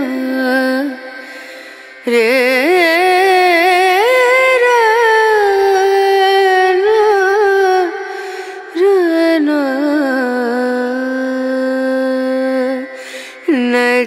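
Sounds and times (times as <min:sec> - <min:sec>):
high-voiced singer with vibrato: 0:00.0 - 0:14.0.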